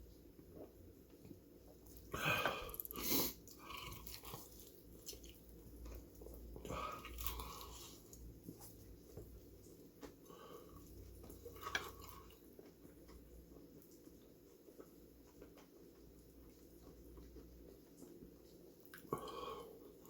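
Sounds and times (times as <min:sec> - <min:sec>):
chewing crispy fried chicken: 0:00.4 - 0:20.0.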